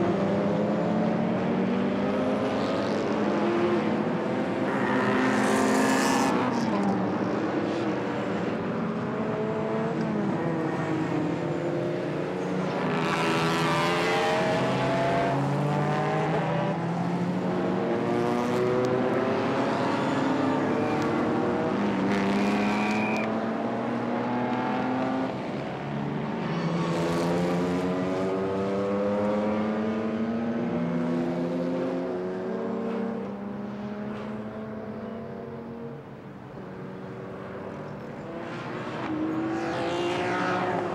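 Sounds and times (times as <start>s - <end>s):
race car engines accelerating: 0.0s - 40.9s
cars passing close: 1.1s - 40.9s.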